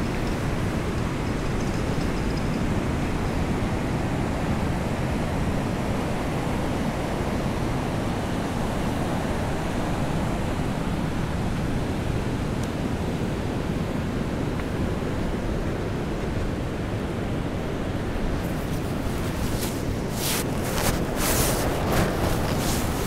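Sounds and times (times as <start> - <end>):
rain on a beach: 0.0 - 23.0
sea surf: 3.4 - 23.0.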